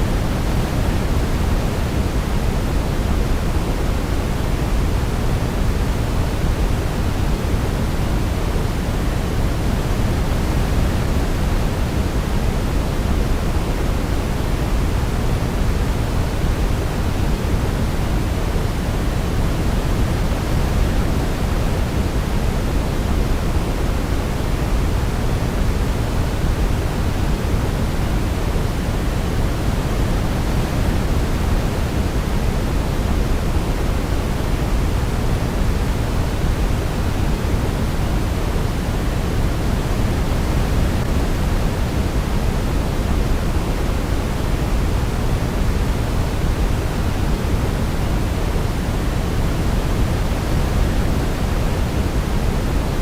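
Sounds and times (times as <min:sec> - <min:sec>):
even low hiss noise: 0:00.0 - 0:53.0.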